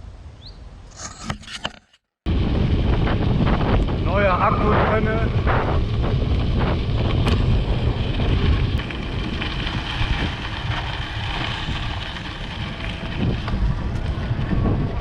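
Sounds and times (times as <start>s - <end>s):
wind buffeting microphone: 2.3s - 15.0s.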